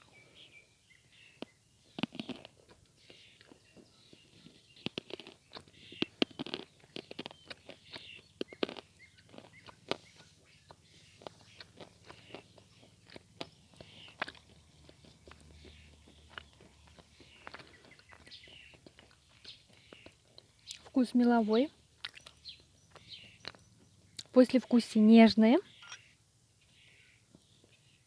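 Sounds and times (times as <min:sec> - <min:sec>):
chalk being chewed and crunched: 0:01.4 - 0:21.0, 0:21.6 - 0:24.8.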